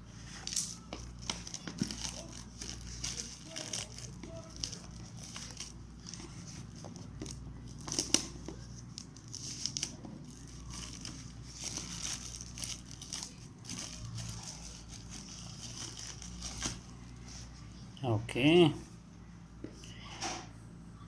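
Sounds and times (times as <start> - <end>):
packaging crinkling and rustling: 0.2 - 17.6.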